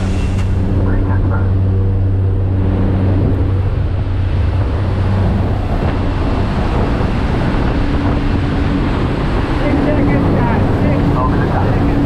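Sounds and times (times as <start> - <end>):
plane engine drone: 0.0 - 12.0
wind rushing through open door: 0.0 - 12.0.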